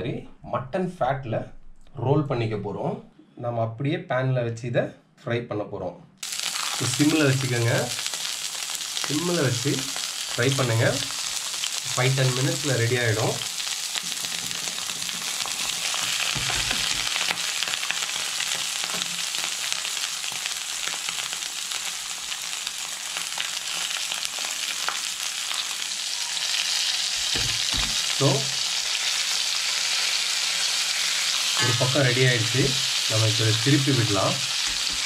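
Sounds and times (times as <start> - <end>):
meat sizzling in a pan: 6.2 - 35.0.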